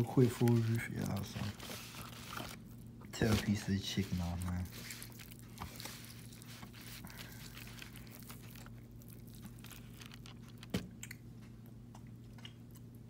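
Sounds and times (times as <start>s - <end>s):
chicken tearing and crackling: 0.0s - 11.2s
steady low hum: 0.0s - 13.0s.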